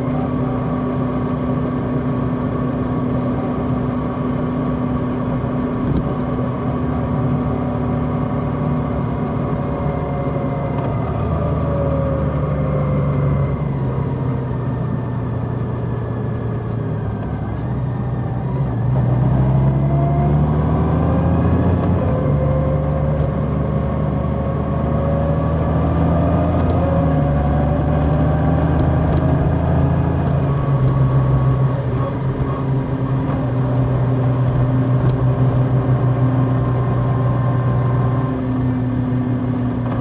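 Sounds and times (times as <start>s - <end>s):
motorcycle engine running: 0.0s - 24.8s, 26.4s - 40.0s.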